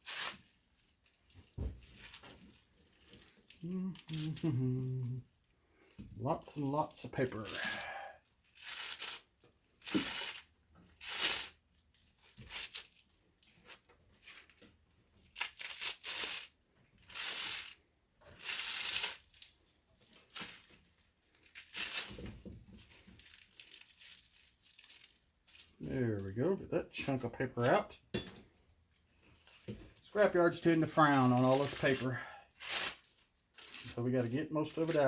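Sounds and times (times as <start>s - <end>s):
paper tearing and crinkling: 0.0s - 5.1s, 7.1s - 25.8s, 29.2s - 35.0s.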